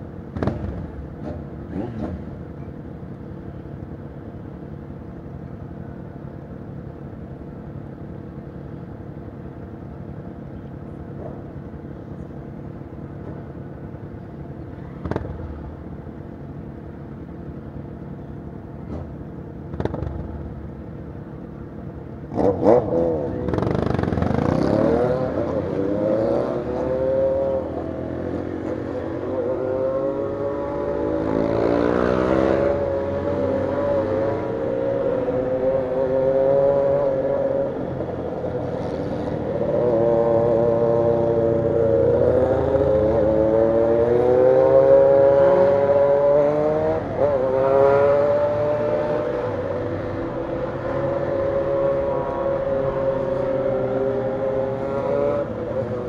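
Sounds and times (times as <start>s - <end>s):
motorcycle engines idling and revving: 0.0s - 56.0s.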